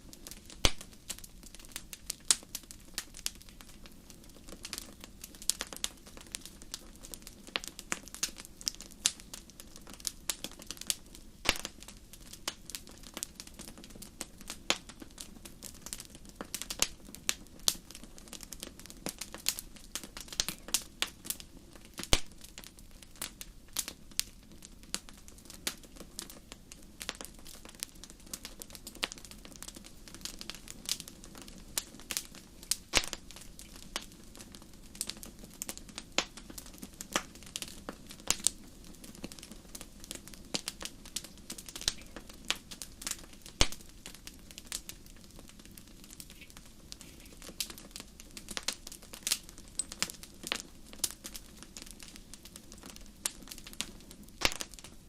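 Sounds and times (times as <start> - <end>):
low rumble of burning: 0.0 - 55.0
wood fire crackling: 0.0 - 55.0.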